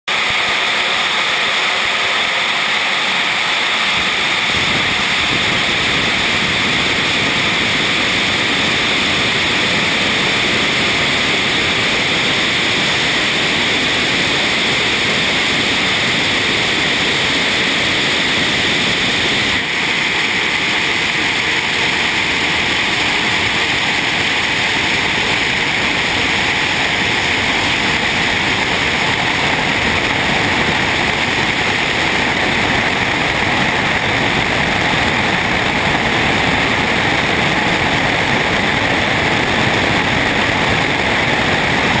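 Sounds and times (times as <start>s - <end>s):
jet engines at full power: 0.0s - 42.0s
airflow over camera: 0.1s - 42.0s.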